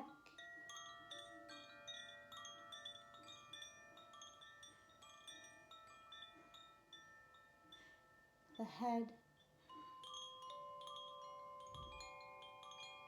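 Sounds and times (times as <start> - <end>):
metal chimes ringing: 0.0 - 13.0.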